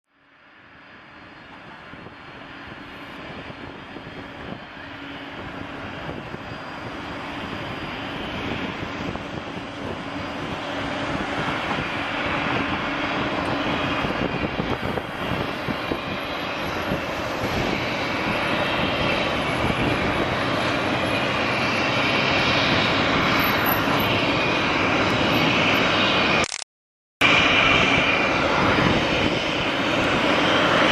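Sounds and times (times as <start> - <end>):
jet engines roaring: 0.2 - 26.6, 27.2 - 30.9.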